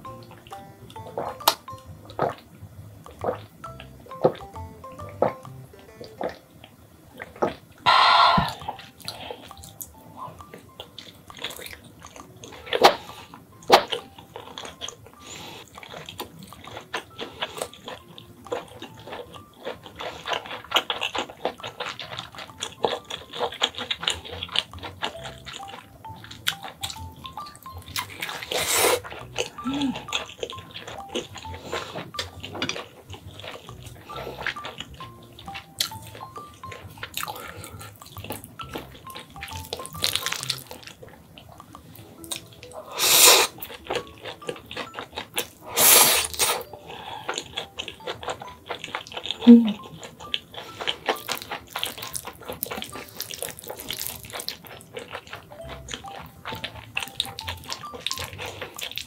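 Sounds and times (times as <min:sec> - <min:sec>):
wet chewing and lip smacking: 0:00.0 - 0:59.0.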